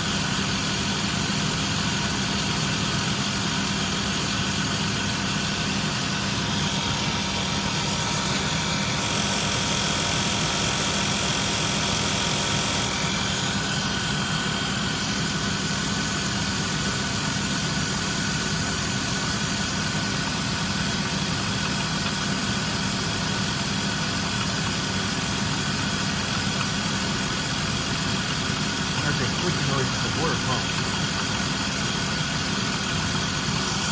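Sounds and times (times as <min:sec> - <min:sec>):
car engine idling: 0:00.0 - 0:33.9
engine clicking: 0:05.5 - 0:33.9.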